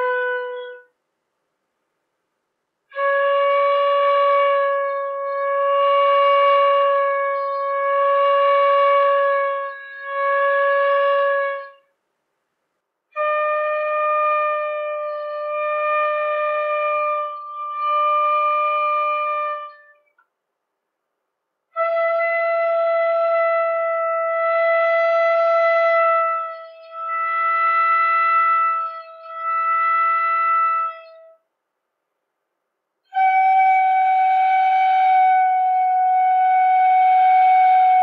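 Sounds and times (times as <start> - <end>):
bamboo flute long notes: 0.0 - 0.9, 2.9 - 11.9, 13.2 - 20.1, 21.8 - 31.4, 33.1 - 38.0.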